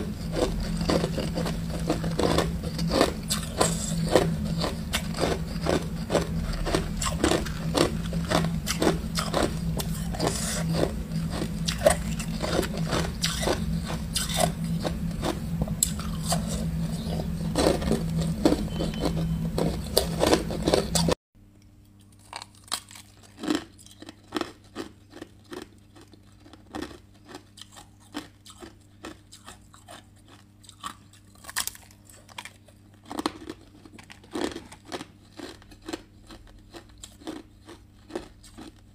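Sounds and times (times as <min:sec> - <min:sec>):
ice crunching between teeth: 0:00.0 - 0:21.2, 0:21.9 - 0:38.9
steady low hum: 0:00.0 - 0:38.9.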